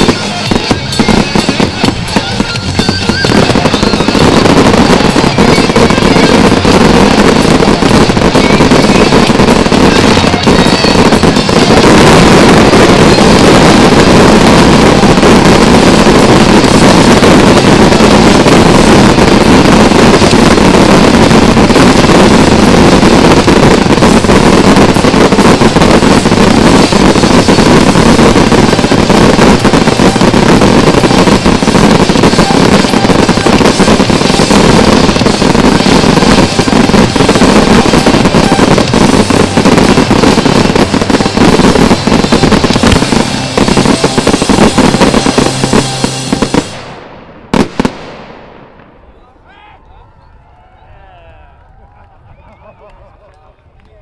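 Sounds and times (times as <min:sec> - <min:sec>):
fireworks barrage: 0:00.0 - 0:51.3.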